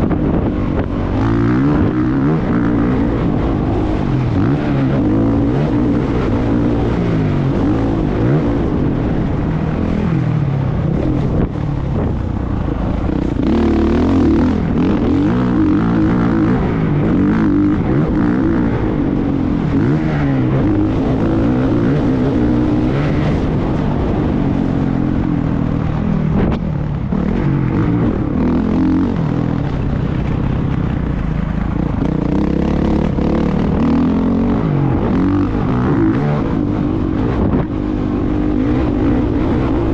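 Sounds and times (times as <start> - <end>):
motocross bike engine revving: 0.0 - 10.3, 12.2 - 25.3, 26.3 - 30.1, 31.8 - 39.9.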